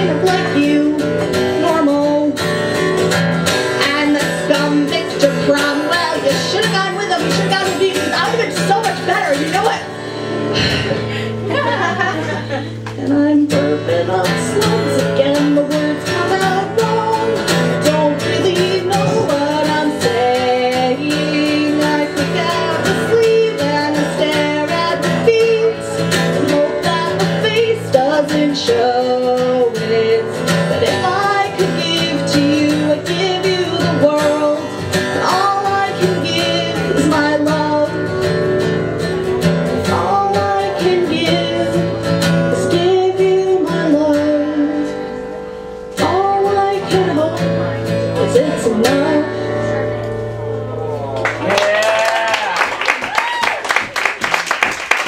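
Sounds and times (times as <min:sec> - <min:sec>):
woman singing: 0:00.0 - 0:09.9, 0:12.9 - 0:45.2, 0:46.0 - 0:50.0
strummed acoustic guitar: 0:00.0 - 0:51.3.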